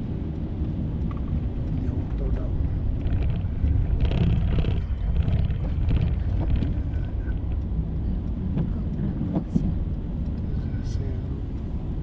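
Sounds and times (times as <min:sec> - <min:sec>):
car engine and tyres rumbling: 0:00.0 - 0:12.0
faint ticks: 0:00.3 - 0:11.8.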